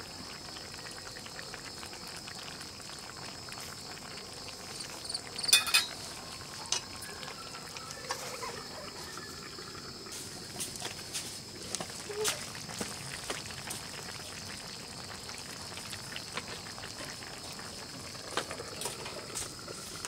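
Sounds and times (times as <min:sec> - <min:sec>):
curry simmering and bubbling: 0:00.0 - 0:20.0.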